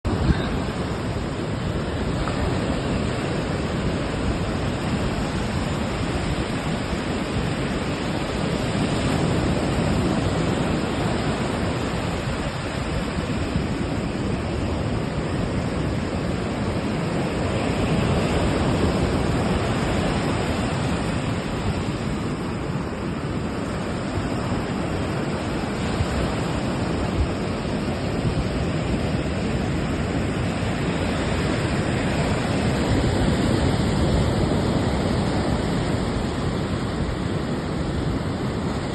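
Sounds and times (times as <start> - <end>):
ocean waves washing: 0.0 - 38.9.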